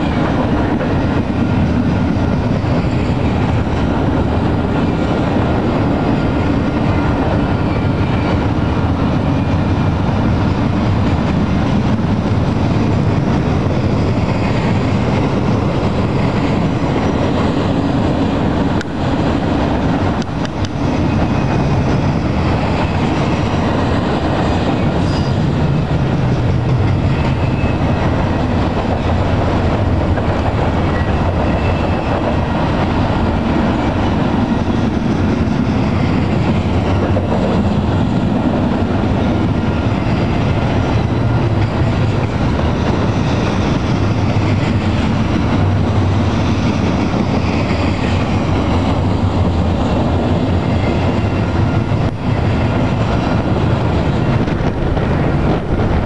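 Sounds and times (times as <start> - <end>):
steel train wheels rumbling on rail: 0.0 - 56.0.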